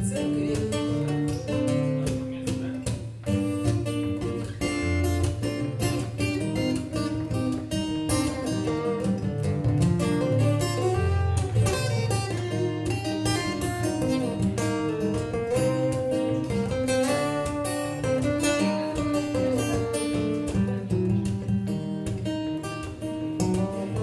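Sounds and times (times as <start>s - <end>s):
acoustic guitars playing: 0.0s - 24.0s.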